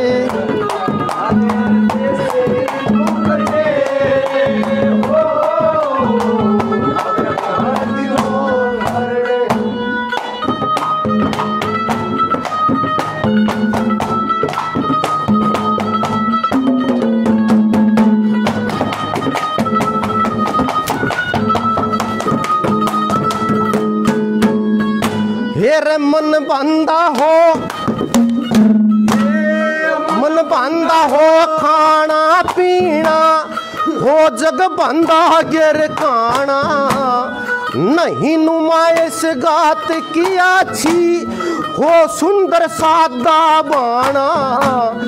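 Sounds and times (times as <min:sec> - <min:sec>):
hand drum beat: 0:00.0 - 0:25.8, 0:26.7 - 0:45.0
melody of held notes: 0:00.0 - 0:45.0.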